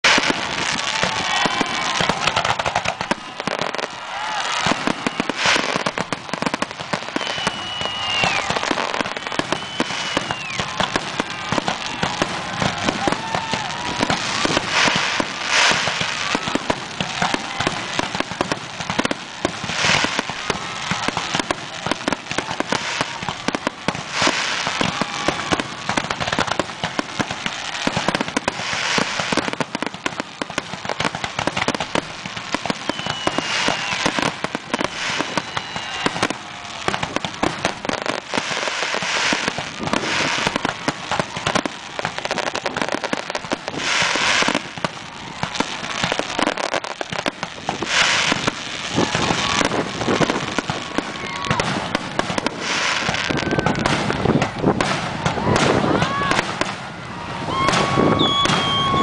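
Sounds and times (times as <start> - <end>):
fireworks crackling and bursting: 0.0 - 59.0.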